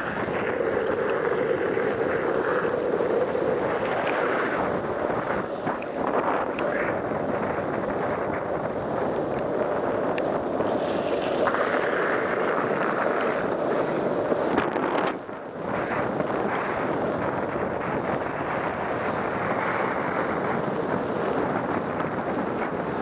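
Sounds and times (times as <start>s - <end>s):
wheels hissing on wet asphalt: 0.0s - 23.0s
wind rushing over microphone: 0.0s - 23.0s.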